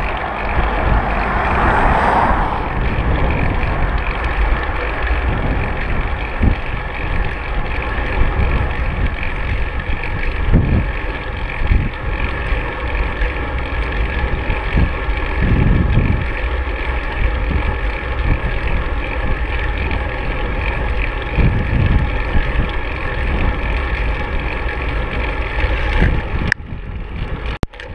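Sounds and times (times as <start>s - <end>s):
tyre and road noise: 0.0s - 27.9s
wind buffeting microphone: 0.0s - 27.9s.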